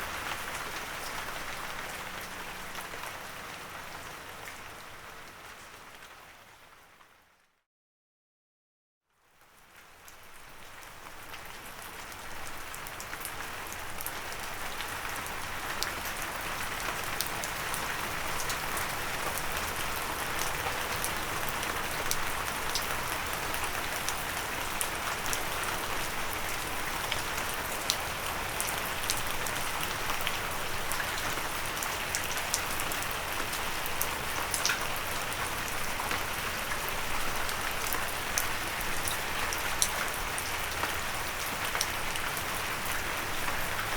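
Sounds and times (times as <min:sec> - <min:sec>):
rain on a windowsill: 0:00.0 - 0:07.6, 0:09.1 - 0:43.9.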